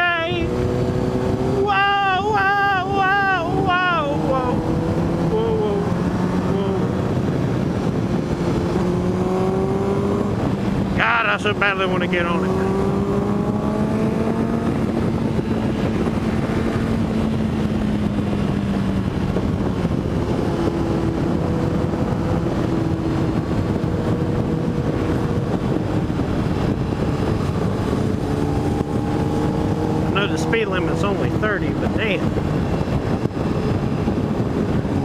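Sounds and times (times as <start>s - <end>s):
heavy wind rush: 0.0s - 35.0s
motorcycle engine cruising: 0.0s - 35.0s.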